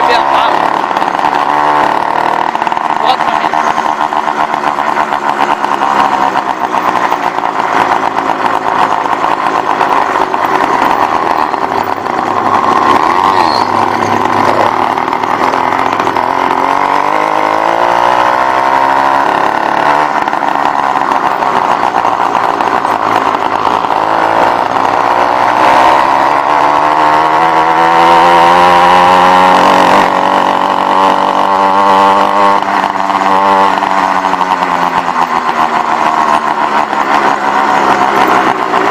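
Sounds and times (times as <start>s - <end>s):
small two-stroke engine running: 0.0s - 38.9s.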